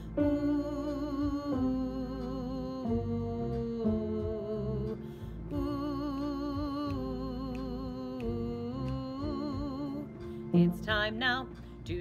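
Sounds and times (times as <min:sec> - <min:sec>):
musical accompaniment: 0:00.0 - 0:12.0
woman singing with vibrato: 0:00.0 - 0:12.0.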